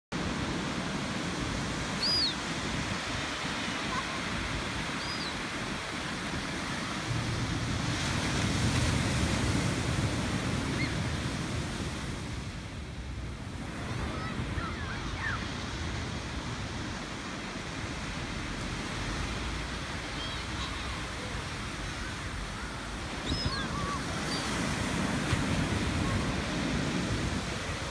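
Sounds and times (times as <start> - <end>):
ocean surf breaking on beach: 0.2 - 27.9.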